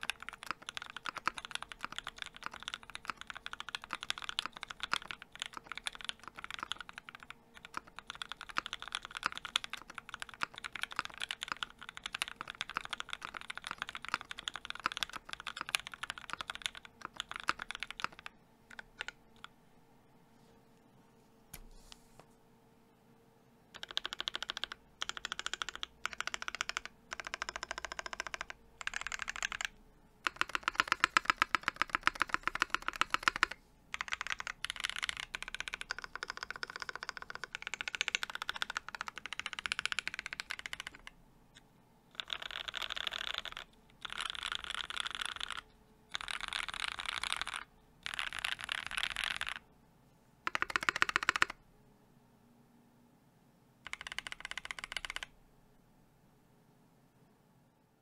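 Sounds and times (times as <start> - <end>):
mechanical keyboard typing: 0.0 - 19.5, 23.8 - 41.2, 42.1 - 49.6, 50.4 - 51.6, 53.8 - 55.3.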